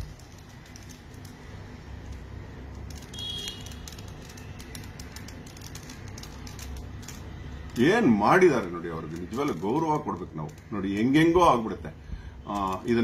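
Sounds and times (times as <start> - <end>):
puzzle cube layers clicking: 0.0 - 11.6.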